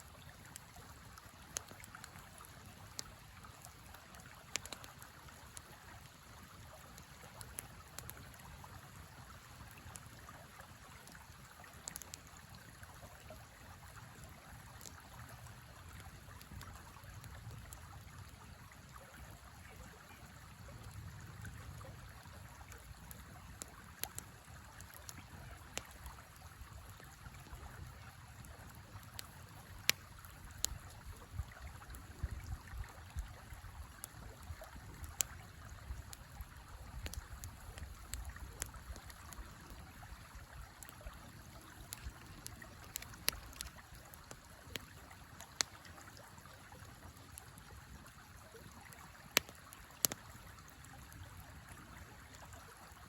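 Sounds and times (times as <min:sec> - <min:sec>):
campfire crackling and popping: 0:00.0 - 0:53.0
river water running: 0:00.0 - 0:53.0.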